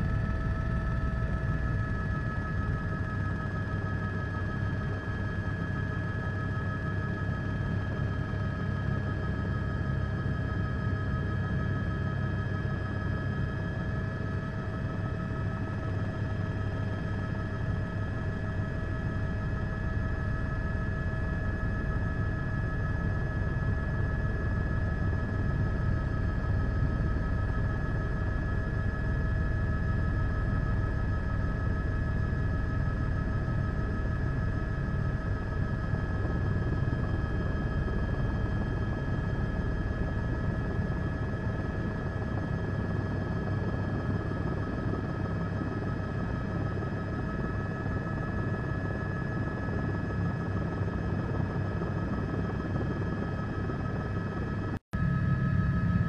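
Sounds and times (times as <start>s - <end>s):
helicopter high whine: 0.0s - 56.0s
helicopter low rumble: 0.0s - 56.0s.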